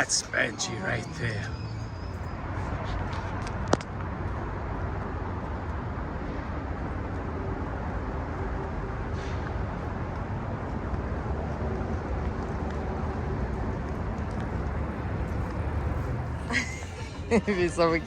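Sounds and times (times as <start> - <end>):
low rumbling traffic din: 0.0 - 7.5, 9.5 - 18.0.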